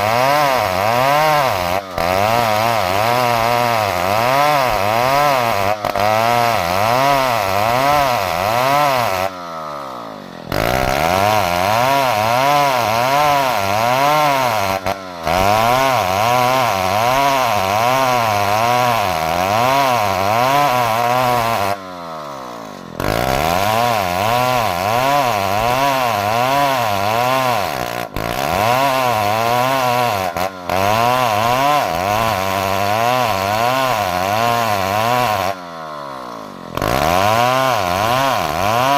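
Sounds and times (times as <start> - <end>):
chainsaw engine under load: 0.0 - 38.9.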